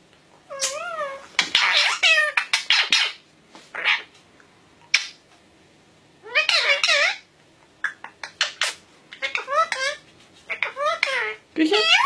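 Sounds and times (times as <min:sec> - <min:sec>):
parakeet calling and chattering: 0:00.5 - 0:04.1, 0:04.9 - 0:05.2, 0:06.2 - 0:12.0.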